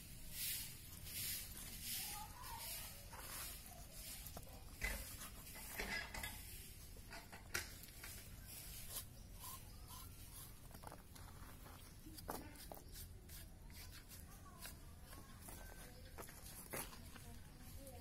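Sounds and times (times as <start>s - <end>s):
soft handling noises: 0.9s - 18.0s.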